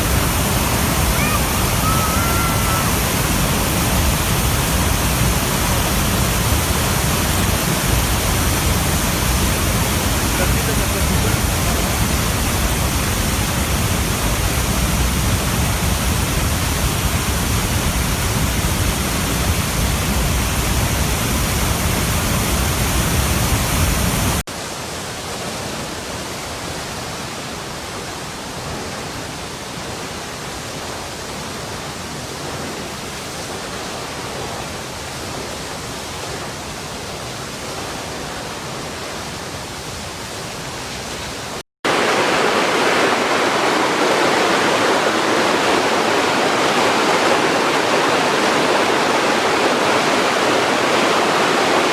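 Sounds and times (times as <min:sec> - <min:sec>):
water rushing: 0:00.0 - 0:51.9.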